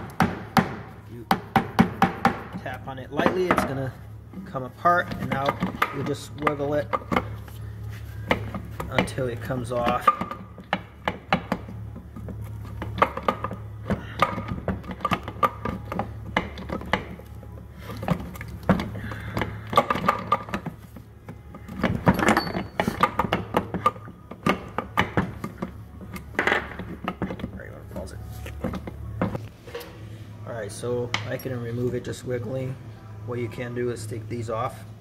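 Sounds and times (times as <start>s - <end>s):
metal clunks and knocks: 0.0s - 7.4s, 8.2s - 17.3s, 17.9s - 29.8s
steady low hum: 0.0s - 35.0s.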